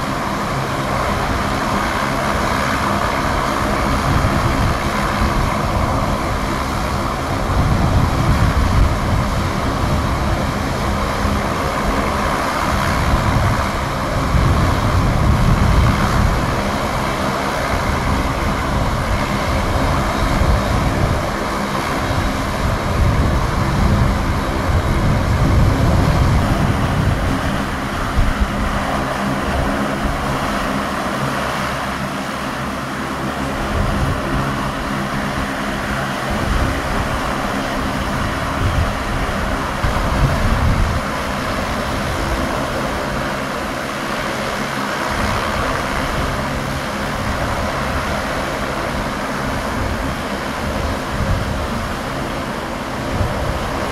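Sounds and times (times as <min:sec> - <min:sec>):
turboprop engines running: 0:00.0 - 0:53.9.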